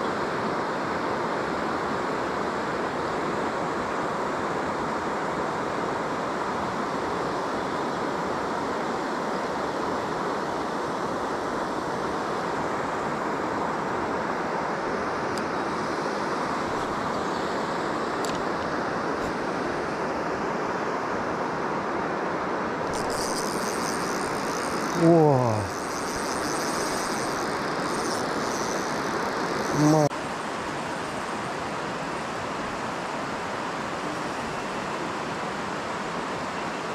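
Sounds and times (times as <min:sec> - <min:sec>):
steady rushing outdoor noise: 0:00.0 - 0:36.9.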